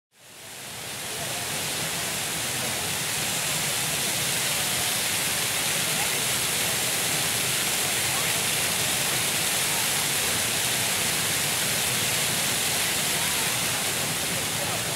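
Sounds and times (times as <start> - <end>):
fountain splashing into a basin: 0.2 - 14.9.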